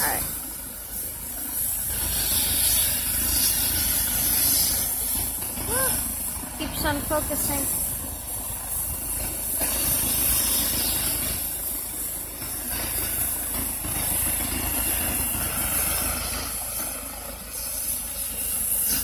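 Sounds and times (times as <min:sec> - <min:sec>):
helicopter engine drone: 0:00.0 - 0:19.0
high turbine hiss: 0:00.0 - 0:19.0.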